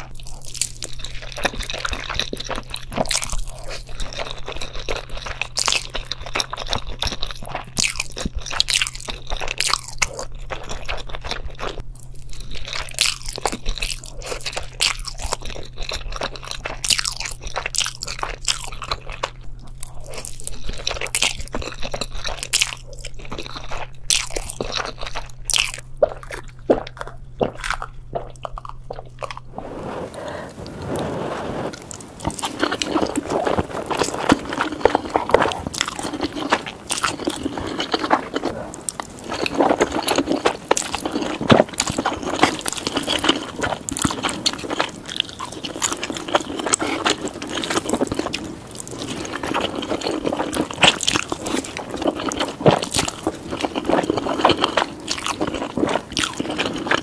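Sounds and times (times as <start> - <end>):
crisp crunching: 0.0 - 57.0.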